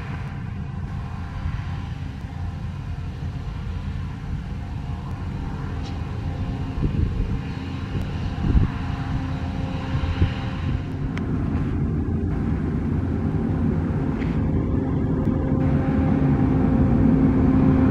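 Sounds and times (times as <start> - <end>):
diesel machinery rumbling: 0.0 - 17.9.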